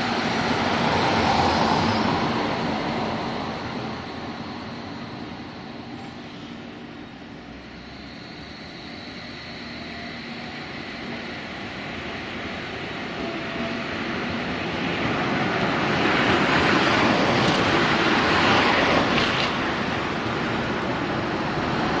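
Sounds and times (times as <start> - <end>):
tram hum: 0.0 - 22.0.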